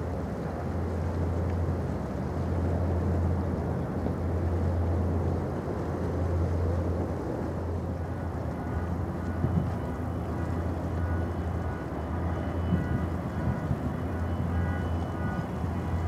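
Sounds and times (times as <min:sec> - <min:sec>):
ship engines droning: 0:00.0 - 0:16.0
water rushing: 0:00.0 - 0:16.0.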